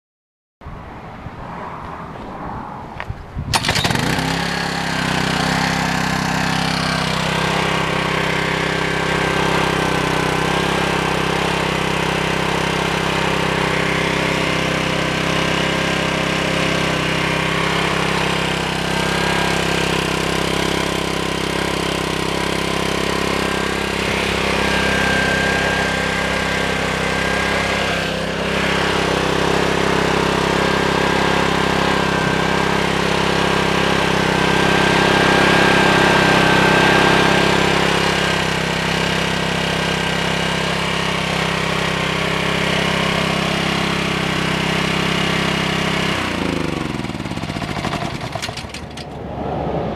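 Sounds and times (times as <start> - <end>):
small engine starting and running: 3.5 - 49.5.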